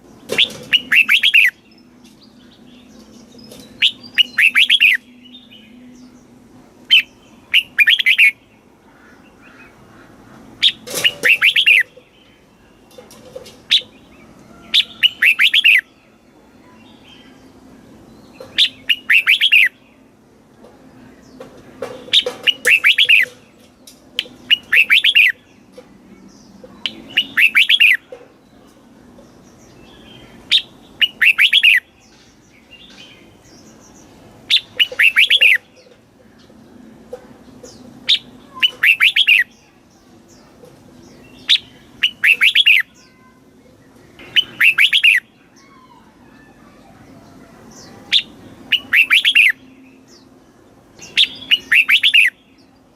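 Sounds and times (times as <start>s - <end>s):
bird singing bright phrases: 0.0s - 52.9s.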